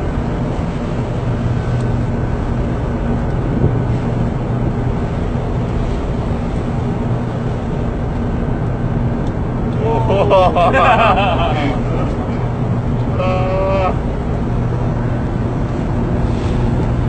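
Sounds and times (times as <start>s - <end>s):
boat engine droning: 0.0s - 17.0s
loud wind: 0.0s - 17.0s
sea noise: 0.0s - 17.0s.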